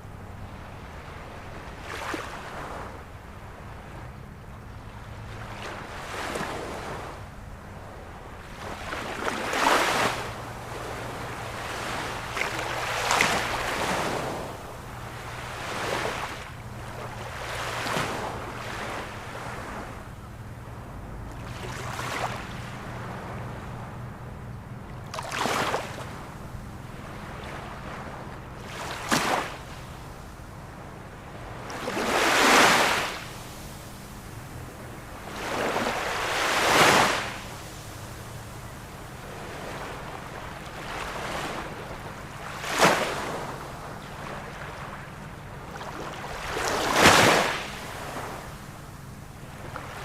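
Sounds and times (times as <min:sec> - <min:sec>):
ocean waves breaking: 0:00.3 - 0:50.0.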